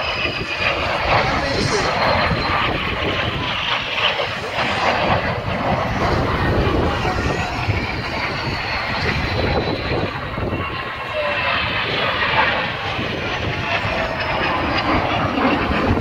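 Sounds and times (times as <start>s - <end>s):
jet engine noise: 0.0s - 16.0s.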